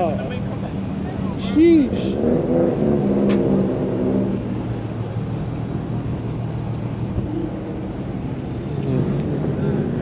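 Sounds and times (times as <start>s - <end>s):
outdoor noise: 0.0s - 10.0s.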